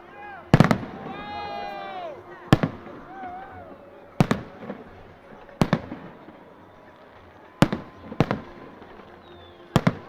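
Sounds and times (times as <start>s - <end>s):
fireworks bangs with echo: 0.4s - 10.0s.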